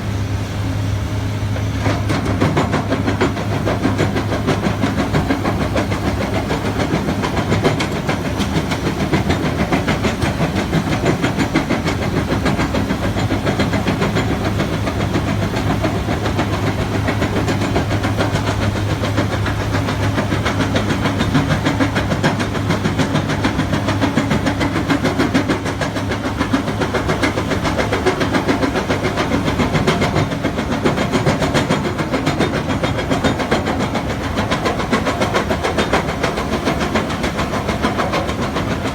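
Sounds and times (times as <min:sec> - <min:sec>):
heavy machine engine hum: 0:00.0 - 0:38.9.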